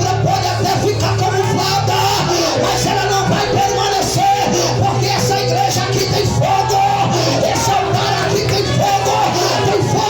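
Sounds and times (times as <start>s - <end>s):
person singing: 0.0s - 10.0s
worship music accompaniment: 0.0s - 10.0s.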